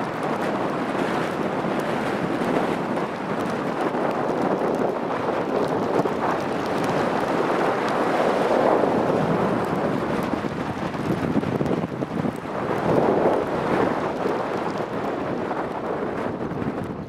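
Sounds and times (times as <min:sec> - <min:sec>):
heavy rain: 0:00.0 - 0:17.0
rough surf: 0:00.0 - 0:17.0
wind buffeting microphone: 0:00.0 - 0:17.0.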